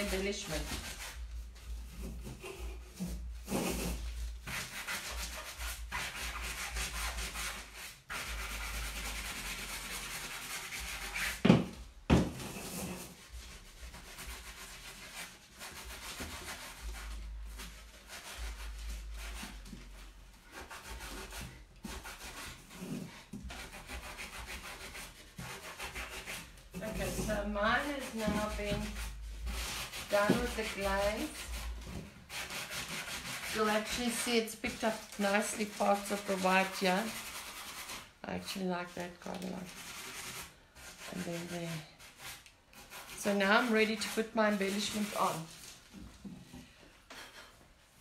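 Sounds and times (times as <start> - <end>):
sanding block scratching: 0.0 - 11.4, 12.4 - 38.1, 38.9 - 45.6.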